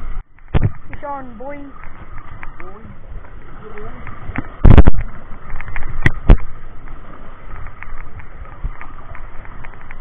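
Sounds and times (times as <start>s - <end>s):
water noise: 0.0s - 10.0s
wind noise on microphone: 0.0s - 10.0s.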